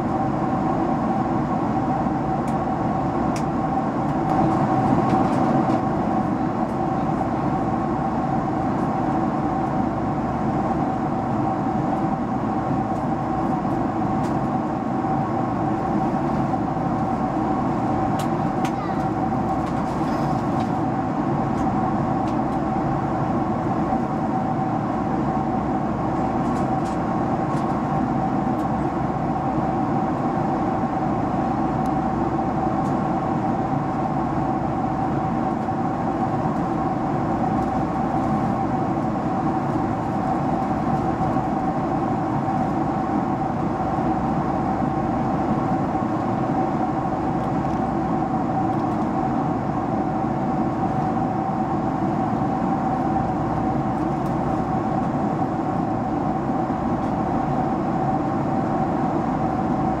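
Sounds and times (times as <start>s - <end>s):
jet engine drone and rushing air: 0.0s - 60.0s
steady whine: 0.0s - 60.0s.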